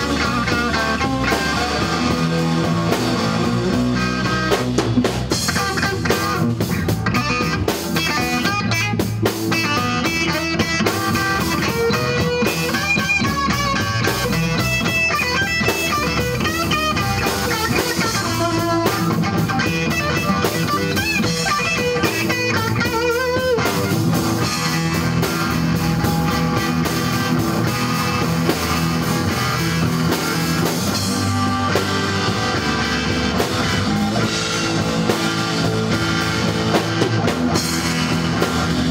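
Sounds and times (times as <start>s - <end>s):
drum kit: 0.0s - 38.9s
rock music with electric guitar: 0.0s - 38.9s.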